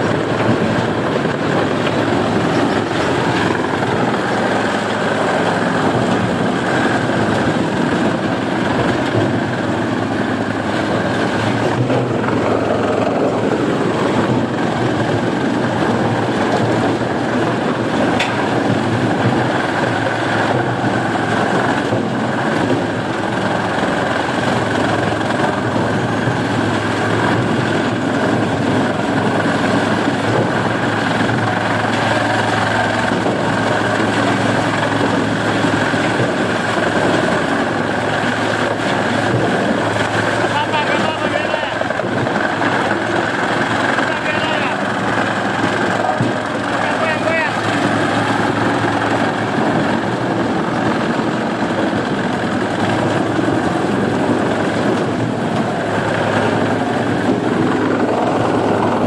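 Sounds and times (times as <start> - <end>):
wood chipper running: 0.0 - 59.0.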